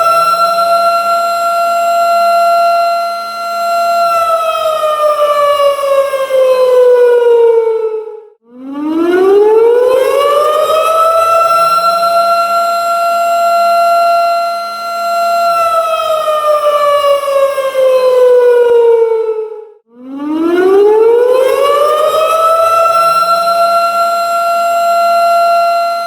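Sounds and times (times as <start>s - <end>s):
warning siren wailing: 0.0s - 26.0s.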